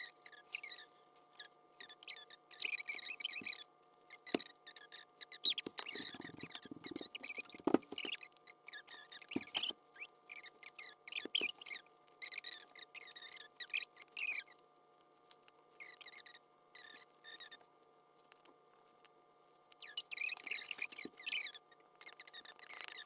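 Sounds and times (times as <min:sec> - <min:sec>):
rubber bands squeaking: 0:00.0 - 0:14.5, 0:15.8 - 0:17.6, 0:19.8 - 0:23.0.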